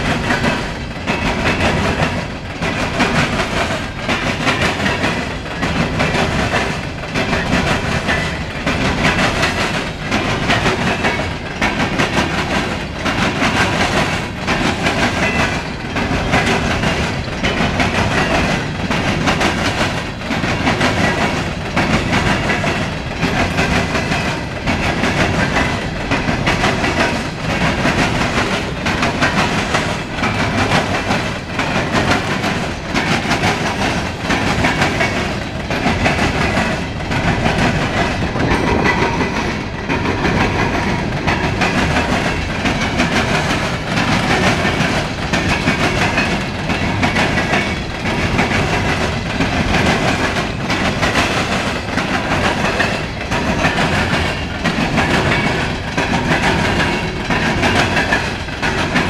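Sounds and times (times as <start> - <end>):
train rumble: 0.0 - 59.0
train wheels clacking on rail joints: 0.0 - 59.0.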